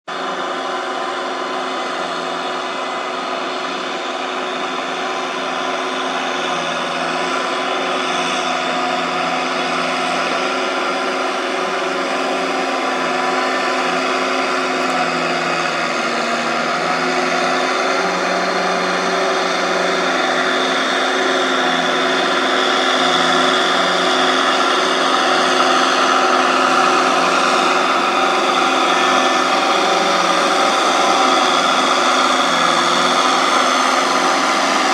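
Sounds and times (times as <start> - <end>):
farm machine engine droning: 0.1 - 34.9.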